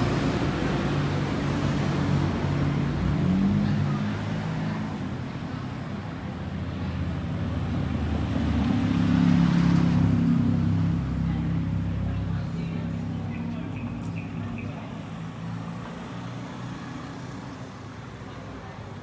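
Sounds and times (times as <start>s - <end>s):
vehicle engines in traffic: 0.0s - 19.0s.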